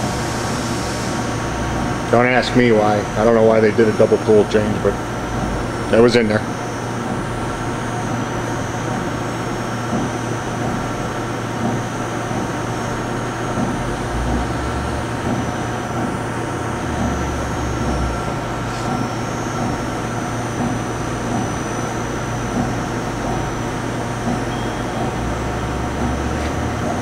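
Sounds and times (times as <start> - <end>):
deep mechanical rumble: 0.0 - 27.0
machining center mechanical hum: 0.0 - 27.0.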